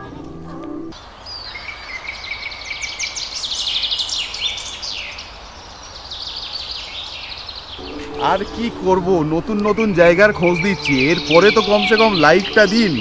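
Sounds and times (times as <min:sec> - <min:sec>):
small birds chirping: 0:00.9 - 0:13.0.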